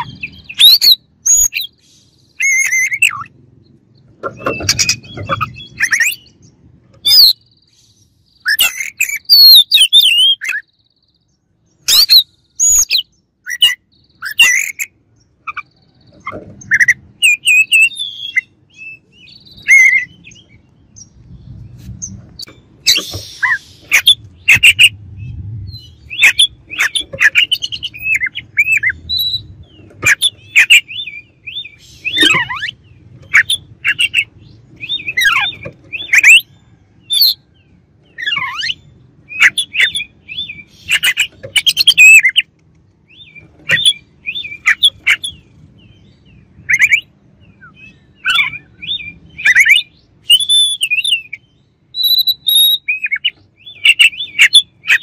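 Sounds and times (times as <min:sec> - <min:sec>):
bird singing whistles and chirps: 0:00.0 - 0:03.3, 0:04.3 - 0:14.9, 0:15.5 - 0:42.4, 0:43.1 - 0:55.0.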